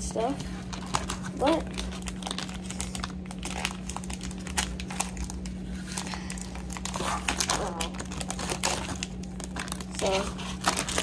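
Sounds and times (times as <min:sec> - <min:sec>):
steady low hum: 0:00.0 - 0:11.0
plastic bag crinkling: 0:00.2 - 0:11.0.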